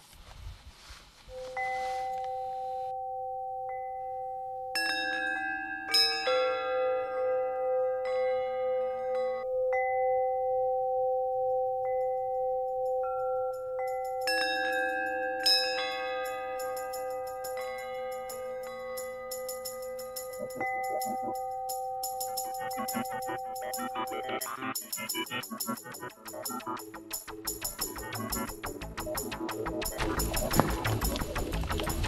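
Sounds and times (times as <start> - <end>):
chime-like bell music: 1.3 - 30.7.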